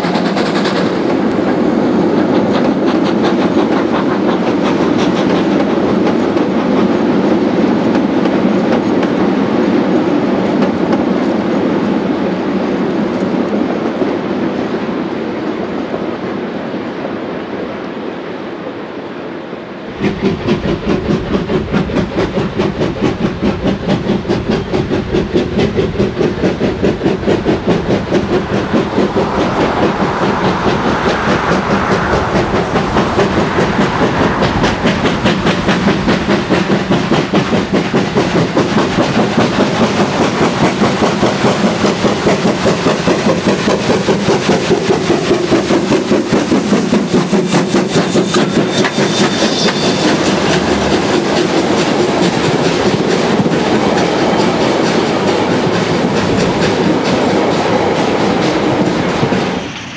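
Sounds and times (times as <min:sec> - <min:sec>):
steam locomotive exhaust beating: 0:00.0 - 0:12.4, 0:19.9 - 0:59.9.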